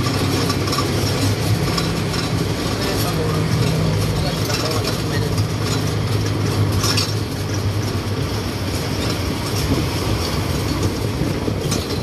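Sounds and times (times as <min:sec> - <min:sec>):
low engine hum: 0:00.0 - 0:12.0
road and wind noise: 0:00.0 - 0:12.0.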